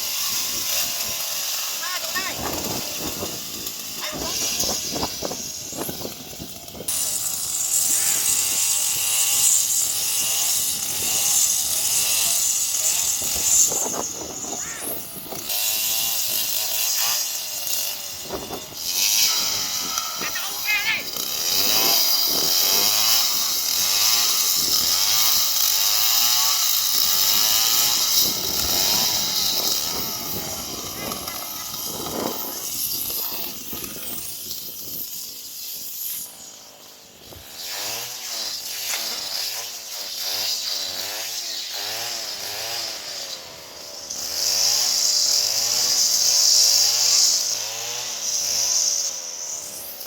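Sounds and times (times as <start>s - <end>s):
chainsaw engine revving: 0.0s - 50.0s.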